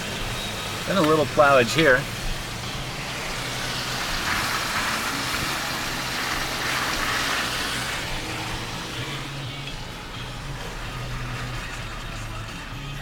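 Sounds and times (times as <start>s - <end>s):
car engine hum: 0.0s - 13.0s
tyre and road noise: 0.0s - 13.0s.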